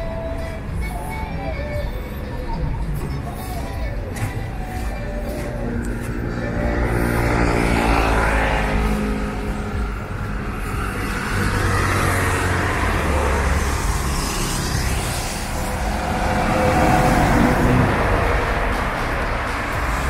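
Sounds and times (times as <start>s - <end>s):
bus driving past: 0.0s - 20.0s
cars driving past: 2.2s - 20.0s.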